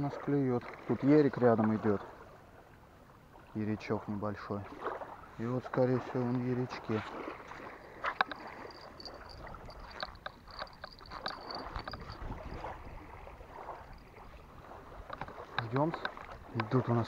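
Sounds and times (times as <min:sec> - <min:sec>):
small waves lapping on shore: 0:00.0 - 0:17.0.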